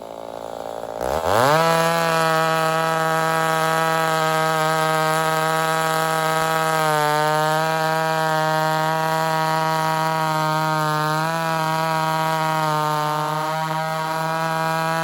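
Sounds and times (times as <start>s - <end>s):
chainsaw running at high revs: 0.0s - 15.0s.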